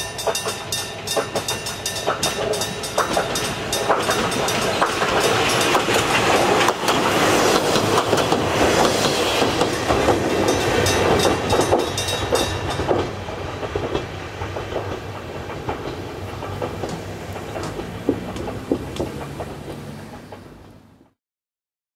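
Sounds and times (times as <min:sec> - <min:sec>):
train wheels clacking over rail joints: 0:00.0 - 0:21.2.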